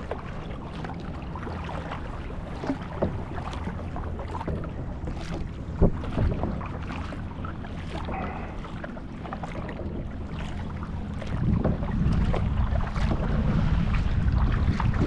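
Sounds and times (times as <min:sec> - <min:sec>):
paddle water splashes and drips: 0:00.0 - 0:15.0
wind rumbling on microphone: 0:00.0 - 0:15.0.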